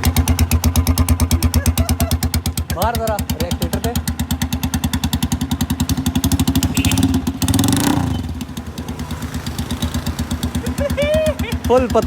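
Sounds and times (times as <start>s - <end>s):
motorcycle engine popping and revving: 0.0s - 12.0s.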